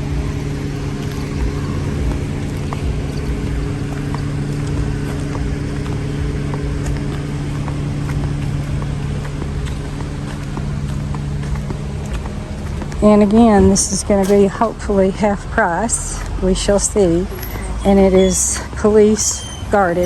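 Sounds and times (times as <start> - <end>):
car engine hum: 0.0 - 20.0
road rumble: 0.0 - 20.0.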